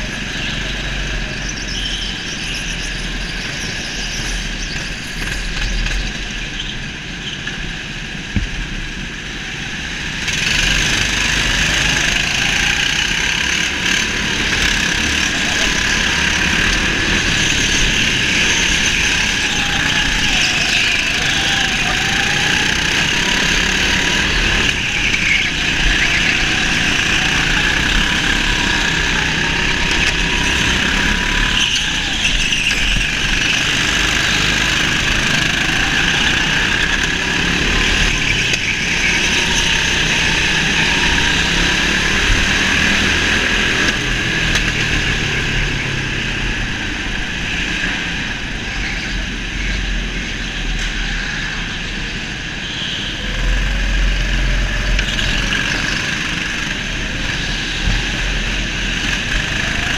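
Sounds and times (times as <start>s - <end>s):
go-kart motor running: 0.0s - 59.9s
other karts running: 0.0s - 59.9s.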